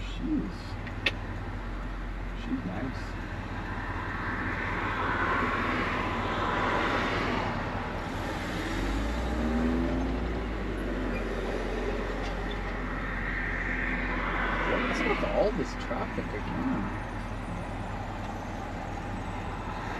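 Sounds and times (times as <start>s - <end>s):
pickup engine and road rumble: 0.0s - 19.9s.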